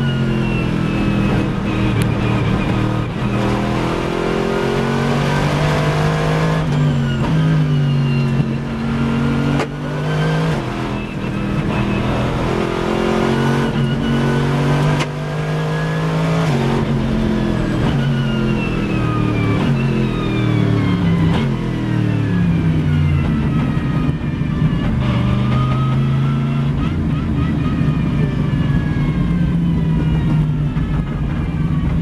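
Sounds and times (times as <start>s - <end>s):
race car engine revving: 0.0s - 30.9s.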